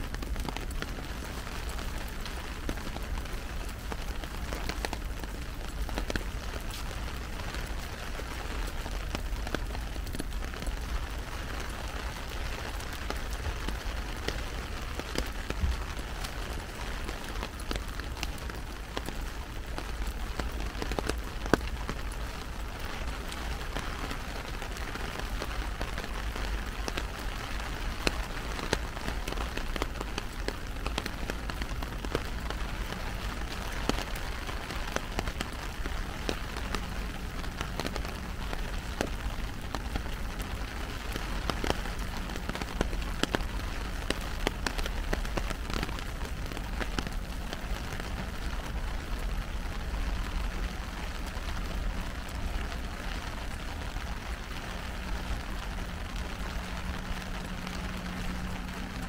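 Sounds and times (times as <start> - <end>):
heavy rain on an umbrella: 0.0 - 59.0.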